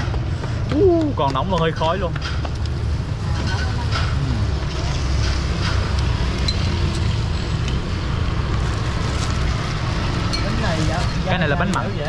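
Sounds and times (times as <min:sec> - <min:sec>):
busy city street rumble: 0:00.0 - 0:12.0.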